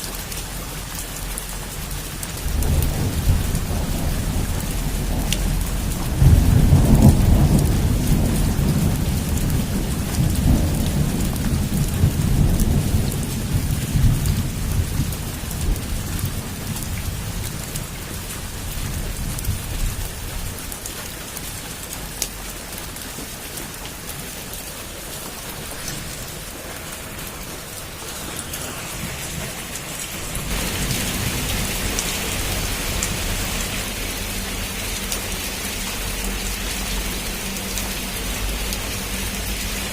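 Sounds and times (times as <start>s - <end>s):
heavy rain pouring: 0.0s - 39.9s
thunder rumbling: 1.6s - 22.7s, 23.5s - 39.9s.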